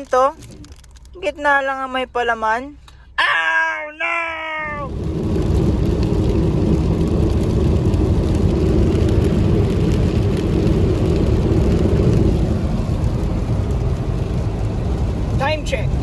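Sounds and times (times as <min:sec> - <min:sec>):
car cabin engine and road noise: 0:00.0 - 0:16.0.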